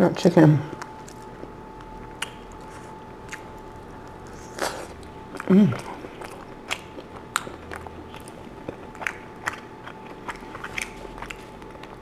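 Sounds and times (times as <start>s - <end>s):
person chewing bread: 0.7s - 12.0s.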